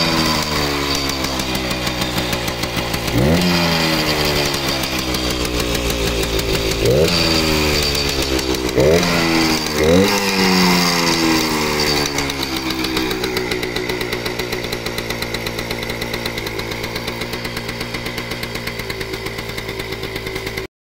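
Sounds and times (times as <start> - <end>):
small two-stroke engine idling: 0.0 - 20.7.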